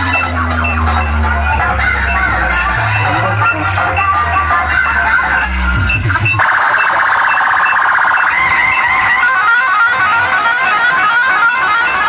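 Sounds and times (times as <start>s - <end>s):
dj music through horn loudspeakers: 0.0s - 12.0s.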